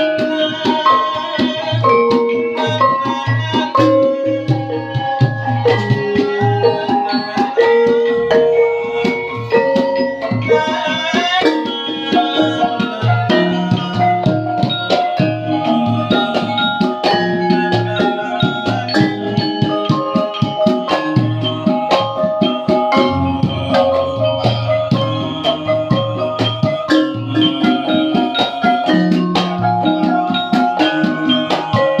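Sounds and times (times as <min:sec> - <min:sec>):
band playing instrumental: 0:00.0 - 0:32.0
hand drum beating: 0:00.0 - 0:32.0
ringing struck-metal notes: 0:00.0 - 0:32.0.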